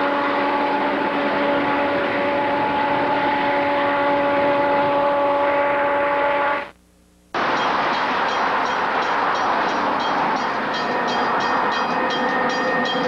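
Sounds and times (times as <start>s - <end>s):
train rumble: 0.0s - 6.6s, 7.4s - 13.0s
diesel locomotive engine drone: 0.0s - 6.8s, 7.4s - 13.0s.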